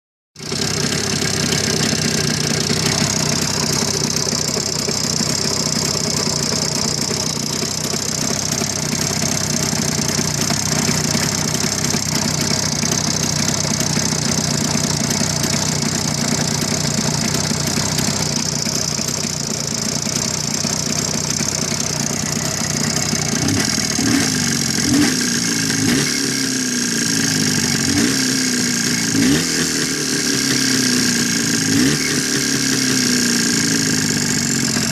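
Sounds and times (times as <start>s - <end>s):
motorcycle engine idling and revving: 0.4s - 34.9s.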